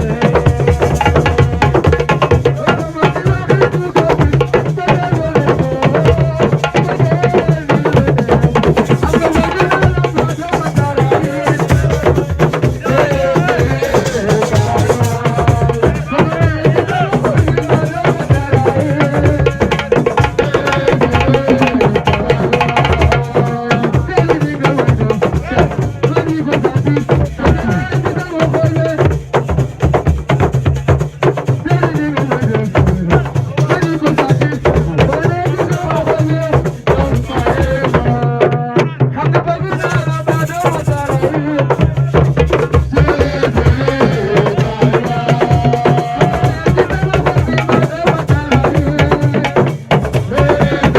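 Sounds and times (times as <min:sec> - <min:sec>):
person singing: 0:00.0 - 0:29.1, 0:31.6 - 0:50.9
hand drums fast rhythm: 0:00.0 - 0:50.9.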